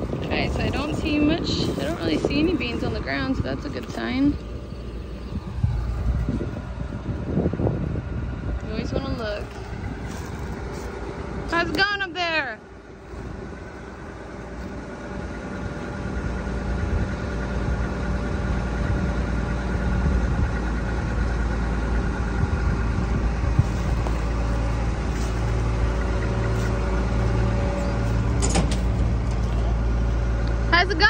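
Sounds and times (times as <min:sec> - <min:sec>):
combine engine droning: 0:00.0 - 0:31.0
low pulsing hum: 0:00.0 - 0:31.0.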